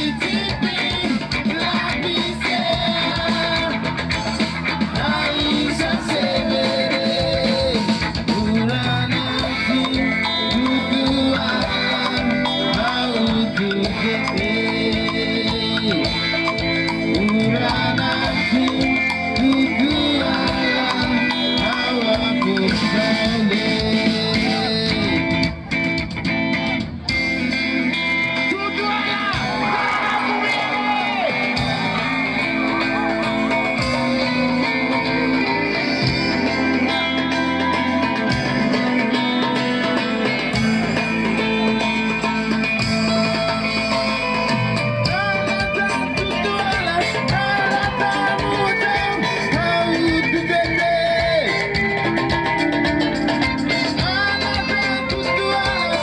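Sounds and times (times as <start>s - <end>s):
person singing: 0.0s - 25.7s, 28.9s - 56.0s
live band music: 0.0s - 56.0s.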